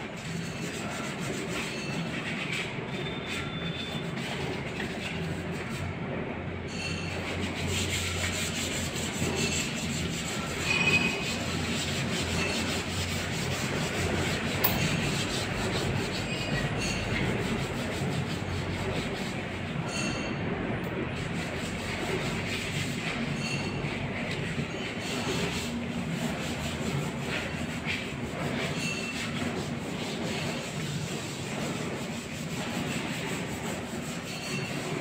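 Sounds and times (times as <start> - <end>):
machinery humming and grinding: 0.0 - 35.0.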